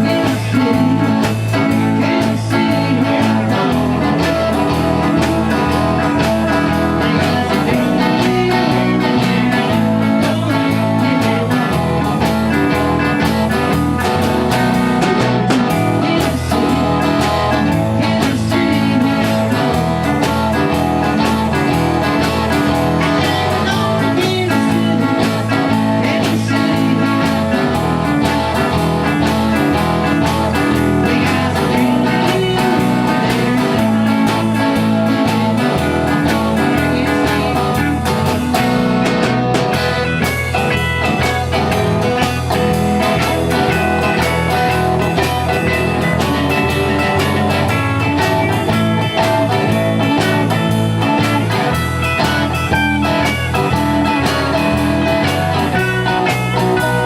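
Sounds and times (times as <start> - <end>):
guitar: 0.0 - 57.0
repeating bass line: 0.0 - 57.0
steady drum beat: 0.0 - 57.0.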